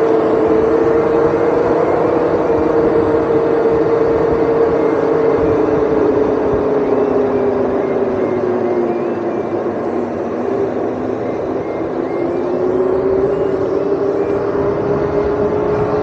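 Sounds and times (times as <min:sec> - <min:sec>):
electric motor whine: 0:00.0 - 0:16.0
wind rushing on microphone: 0:00.0 - 0:16.0.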